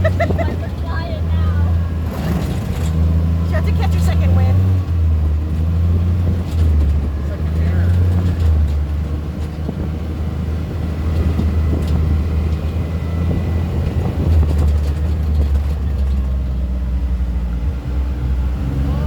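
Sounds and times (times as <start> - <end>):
rattling: 0.0 - 10.0, 10.9 - 16.7
atv engine droning: 0.0 - 19.0.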